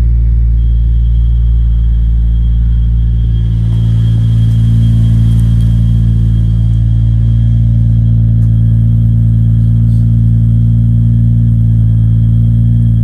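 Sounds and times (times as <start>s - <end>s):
car engine idling: 0.0s - 13.0s
high whistle: 0.0s - 13.0s.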